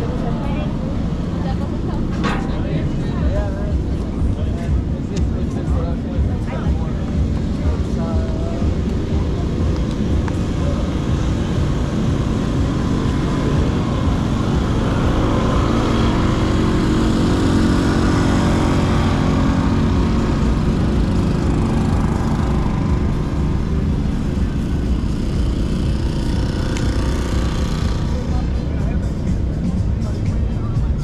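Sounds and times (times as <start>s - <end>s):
engine hum: 0.0s - 31.0s.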